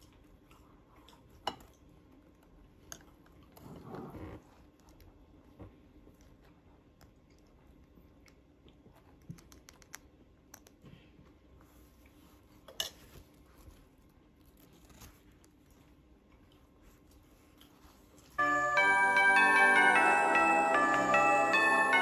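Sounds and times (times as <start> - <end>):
faint chewing with crackles: 0.0 - 18.4.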